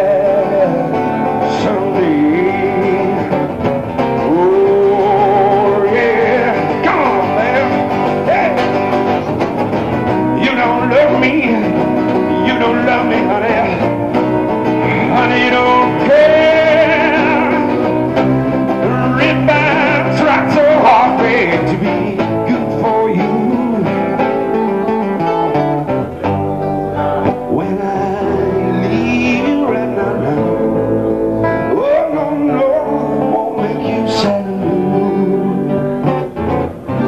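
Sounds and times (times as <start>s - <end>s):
man singing into microphone: 0.0s - 9.0s, 10.2s - 25.6s, 27.2s - 36.2s
acoustic bass: 0.0s - 37.0s
strummed acoustic guitars: 0.0s - 37.0s.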